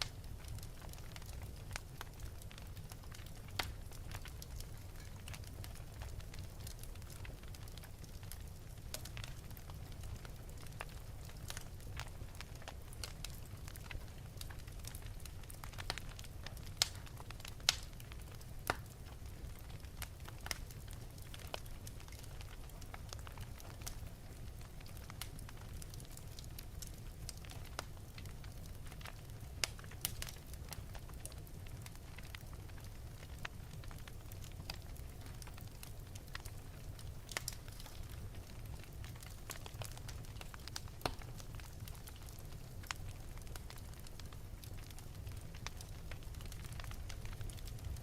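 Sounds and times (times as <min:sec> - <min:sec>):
sharp pops of fire: 0:00.0 - 0:24.0, 0:26.0 - 0:47.8
low rumble of flames: 0:00.0 - 0:48.0
wood fire crackling: 0:00.0 - 0:48.0.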